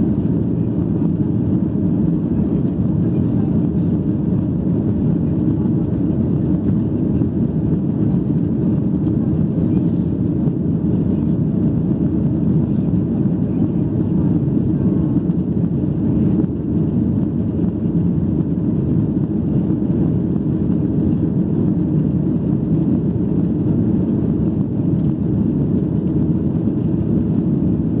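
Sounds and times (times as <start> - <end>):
jet engine rumble in cabin: 0.0 - 28.0.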